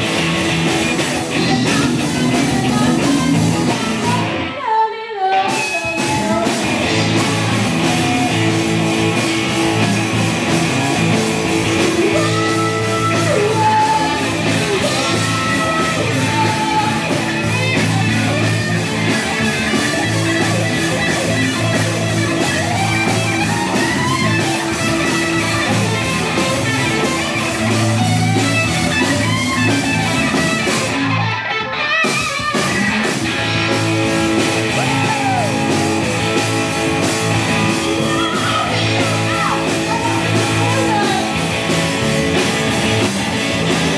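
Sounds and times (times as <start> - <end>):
drum kit: 0.0 - 4.5, 5.4 - 43.9
bass guitar: 0.0 - 4.6, 5.4 - 43.9
distorted electric guitars: 0.0 - 4.6, 5.3 - 43.9.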